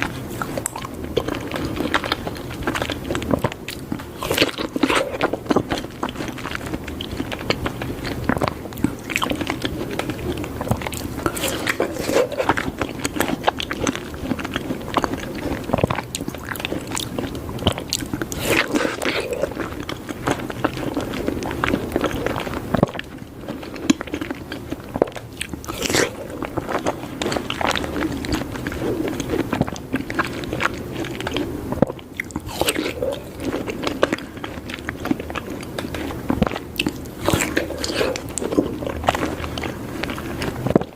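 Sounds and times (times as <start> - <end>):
wet chewing and biting: 0.0 - 40.9.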